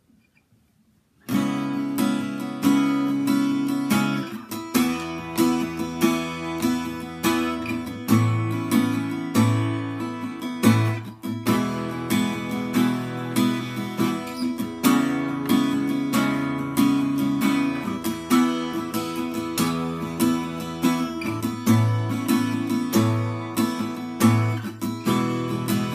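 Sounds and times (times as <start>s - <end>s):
acoustic guitar strumming chords: 1.2s - 25.9s.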